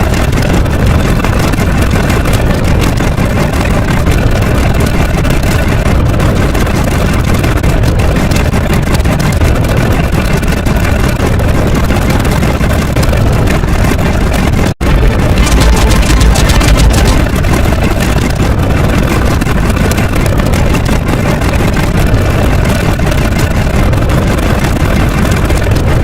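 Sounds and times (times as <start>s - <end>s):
loud engine-like rumble: 0.0s - 26.0s.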